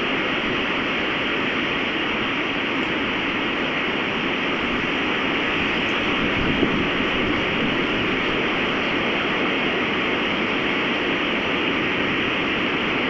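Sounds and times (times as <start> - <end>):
strong storm wind rushing: 0.0 - 13.0.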